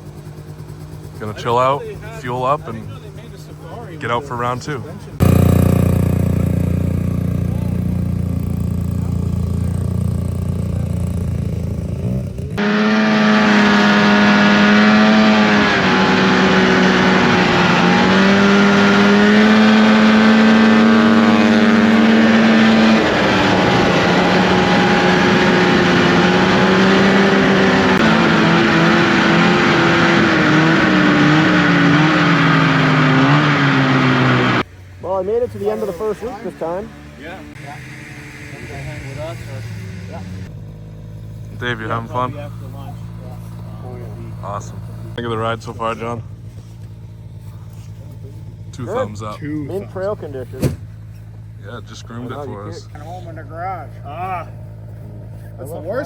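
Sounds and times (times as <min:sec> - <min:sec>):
snowmobile engines running: 0:00.0 - 0:56.0.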